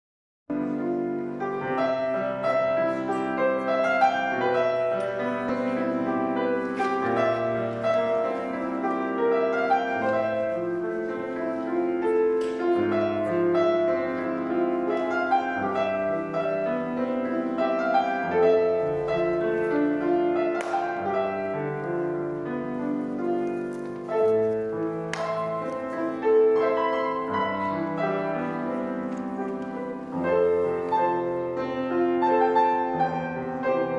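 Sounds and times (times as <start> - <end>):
grand piano playing: 0.5 - 33.9.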